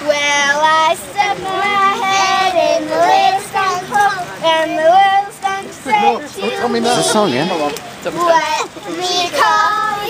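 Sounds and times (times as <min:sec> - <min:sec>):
girls singing in high voices: 0:00.0 - 0:10.0.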